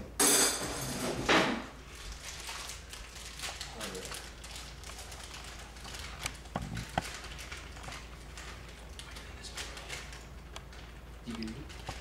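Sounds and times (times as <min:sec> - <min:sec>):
plastic bag crinkling: 0:01.8 - 0:12.0.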